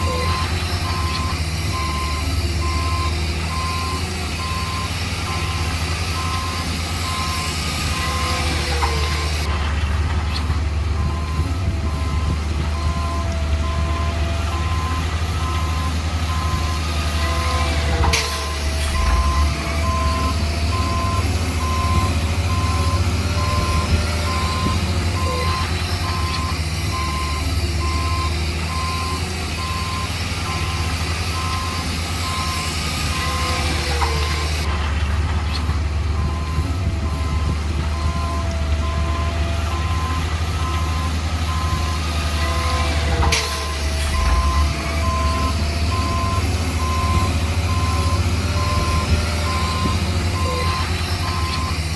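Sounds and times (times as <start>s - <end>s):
reversing alarm beeping: 0.0s - 9.5s, 11.0s - 34.7s, 36.2s - 51.9s
diesel engine running: 0.0s - 51.9s.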